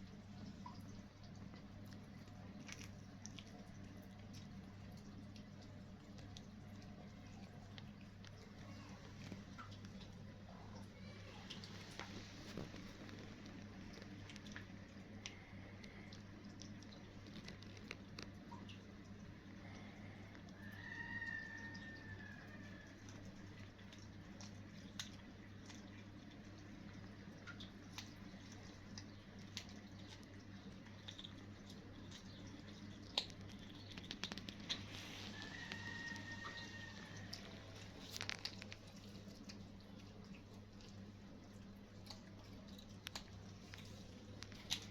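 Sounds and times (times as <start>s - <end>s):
steady low hum: 0.0s - 20.8s, 21.6s - 44.9s
kittens chewing: 0.0s - 44.9s.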